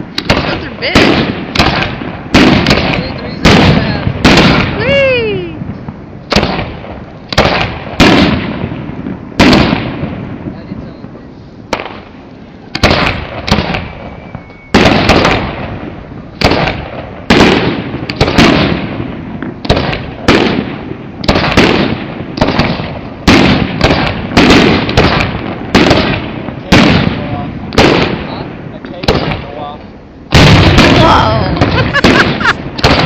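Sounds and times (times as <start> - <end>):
fireworks booming: 0.0 - 33.0.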